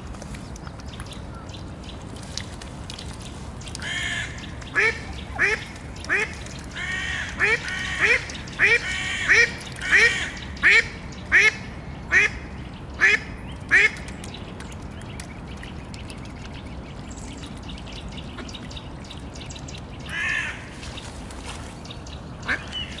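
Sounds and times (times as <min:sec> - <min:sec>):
faint clicking on water: 0:00.0 - 0:11.3, 0:12.8 - 0:20.2.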